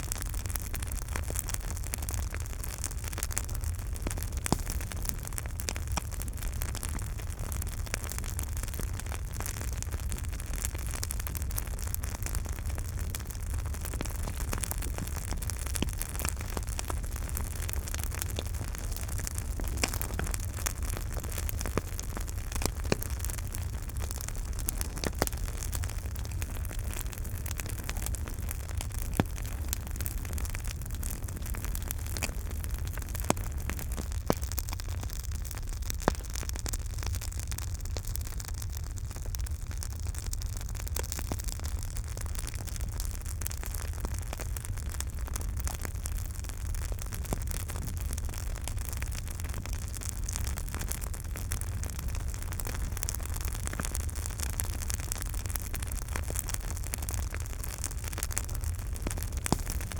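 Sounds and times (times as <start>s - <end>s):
campfire rumble and hiss: 0.0s - 59.9s
fire crackling and popping: 0.0s - 59.9s.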